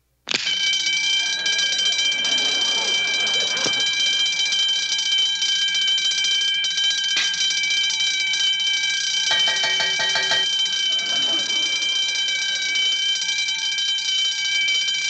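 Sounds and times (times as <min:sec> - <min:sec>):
electric alarm bell ringing: 0:00.4 - 0:15.0.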